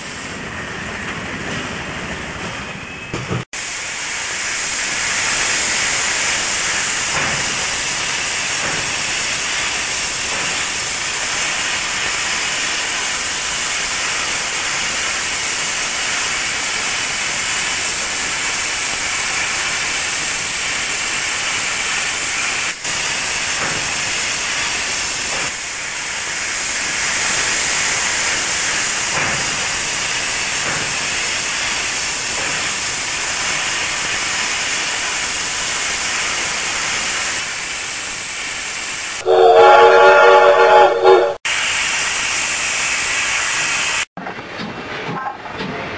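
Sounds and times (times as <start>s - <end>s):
steam hissing: 3.5s - 44.1s.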